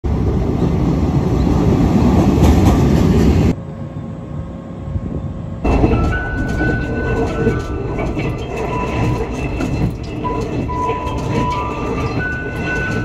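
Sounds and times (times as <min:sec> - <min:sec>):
train wheels rumbling on rails: 0:00.0 - 0:03.6, 0:05.0 - 0:13.0.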